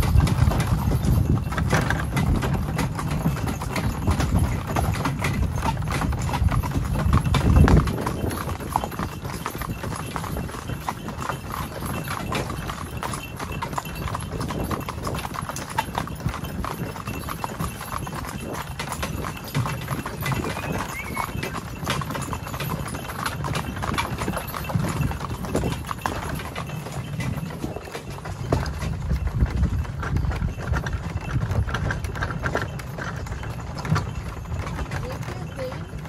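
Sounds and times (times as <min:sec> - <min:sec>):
hooves clip-clopping on dirt: 0:00.0 - 0:36.0.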